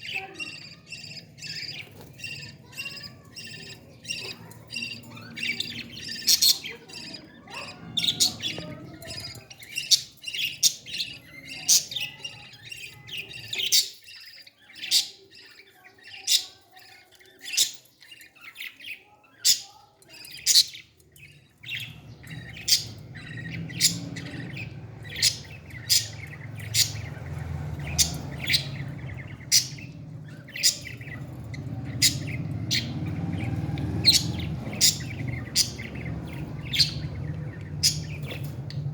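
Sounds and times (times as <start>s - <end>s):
parrot chirping: 0.0s - 38.9s.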